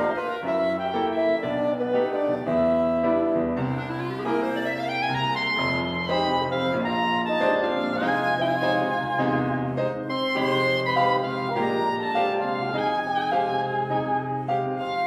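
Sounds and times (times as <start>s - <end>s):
clarinet melody: 0.0s - 15.0s
low bassoon line: 0.0s - 15.0s
piano: 0.0s - 15.0s.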